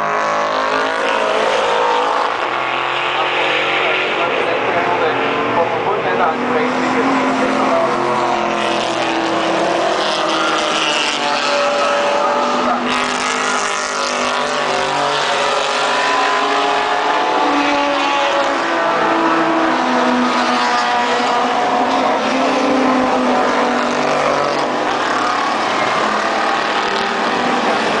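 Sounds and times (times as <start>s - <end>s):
racing car engines passing: 0.0s - 28.0s.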